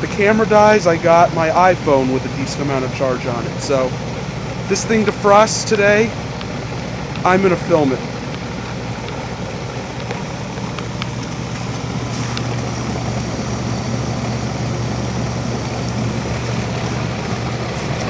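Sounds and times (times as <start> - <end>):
fan and air noise: 0.0 - 18.0
heat pump compressor hum: 0.0 - 18.0.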